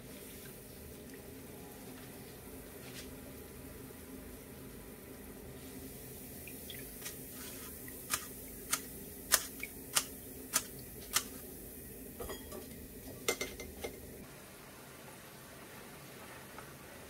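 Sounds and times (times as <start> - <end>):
oil frying: 0.0 - 1.6, 2.6 - 17.0.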